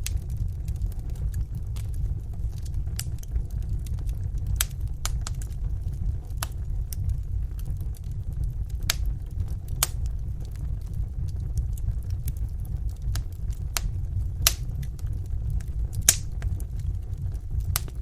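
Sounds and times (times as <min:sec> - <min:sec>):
fire crackling and popping: 0:00.0 - 0:18.0
fire flame rumble: 0:00.0 - 0:18.0.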